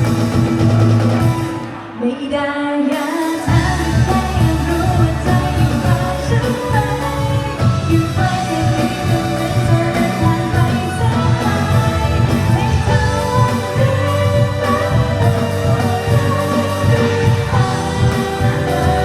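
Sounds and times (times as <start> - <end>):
live pop-rock band: 0.0 - 19.0
person singing: 1.3 - 19.0.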